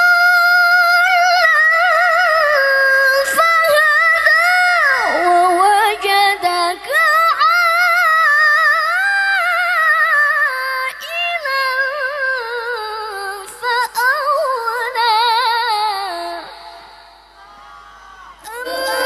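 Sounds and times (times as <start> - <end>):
woman chanting through a microphone: 0.0 - 19.0.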